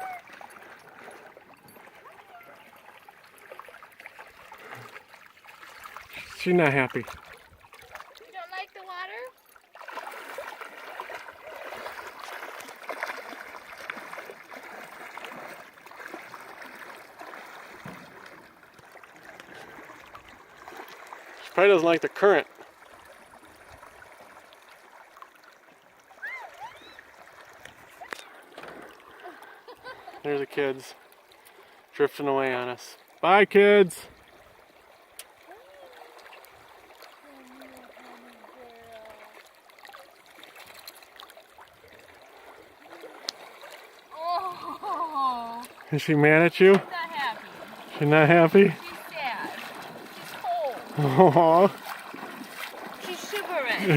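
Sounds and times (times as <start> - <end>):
river current rippling: 0.0 - 53.9
small water splashes: 0.0 - 53.9.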